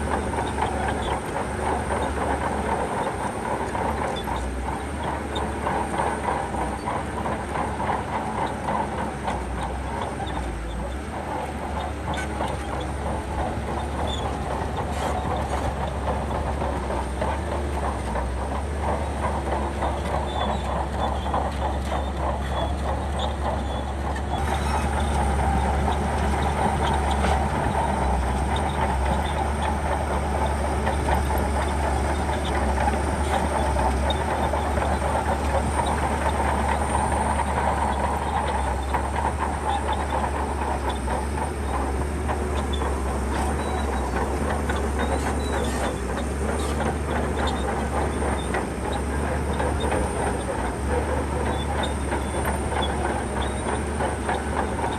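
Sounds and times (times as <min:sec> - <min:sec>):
bulldozer diesel engine running: 0:00.0 - 0:54.9
steel tracks rattling and clanking: 0:00.0 - 0:54.9.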